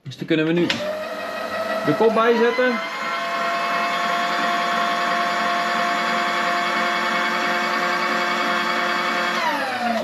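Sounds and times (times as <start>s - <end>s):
milling machine motor whine: 0.8s - 10.0s.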